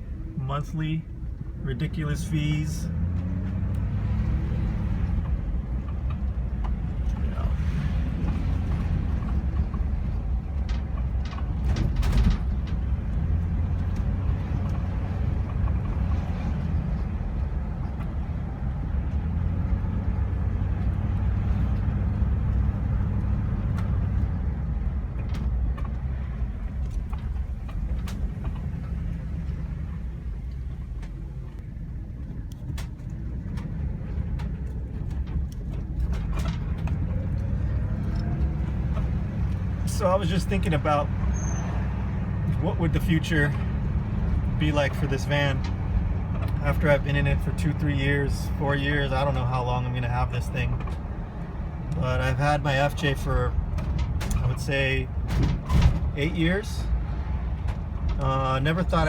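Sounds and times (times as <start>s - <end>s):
van engine and road rumble: 0.0s - 59.0s.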